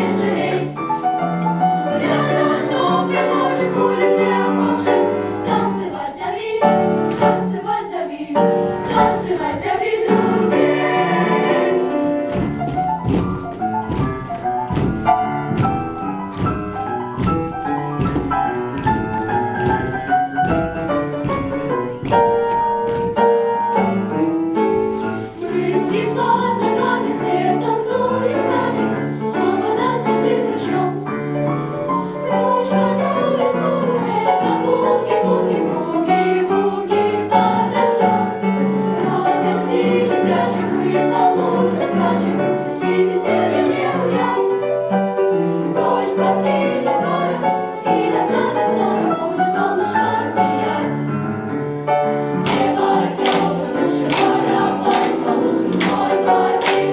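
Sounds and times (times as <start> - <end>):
vocal ensemble singing: 0.0 - 22.4, 23.5 - 56.9
piano accompaniment: 0.0 - 56.9.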